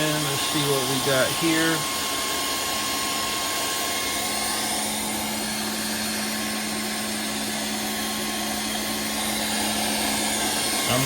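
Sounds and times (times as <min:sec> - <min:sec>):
air compressor motor and fan hum: 0:00.0 - 0:11.0.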